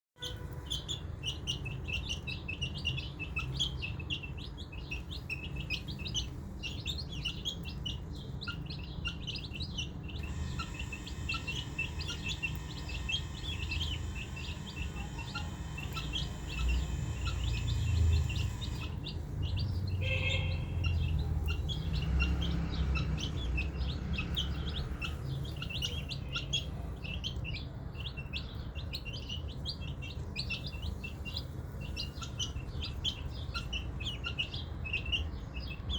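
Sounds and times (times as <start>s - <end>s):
baby chicks peeping: 0.2s - 35.9s.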